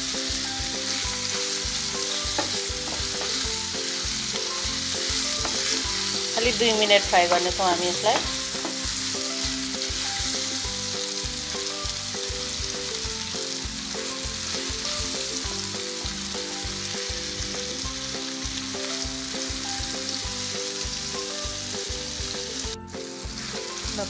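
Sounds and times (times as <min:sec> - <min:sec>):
cheese sizzling in oil: 0:00.0 - 0:24.0.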